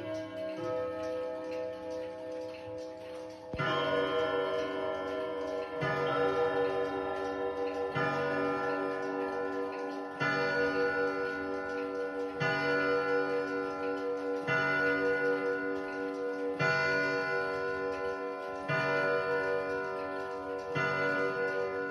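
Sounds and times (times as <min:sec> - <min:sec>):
clock striking on gong rods: 0:00.0 - 0:21.9.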